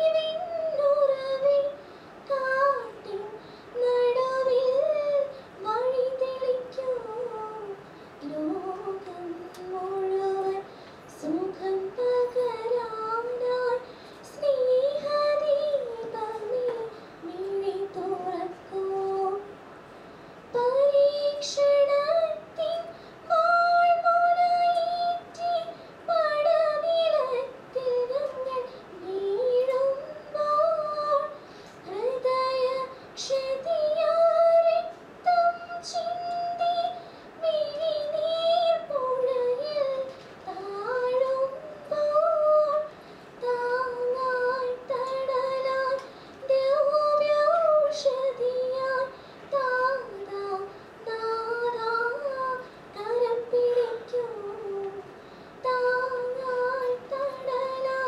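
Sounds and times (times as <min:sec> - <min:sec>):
woman singing a prayer song: 0:00.0 - 0:19.6, 0:20.5 - 0:58.0.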